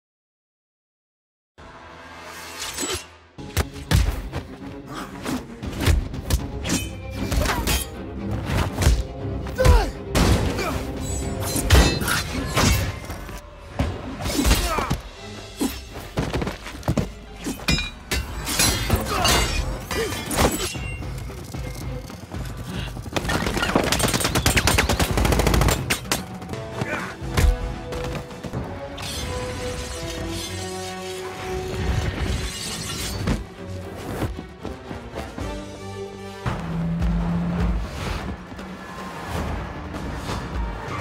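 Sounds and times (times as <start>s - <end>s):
film score music: 1.6s - 41.0s.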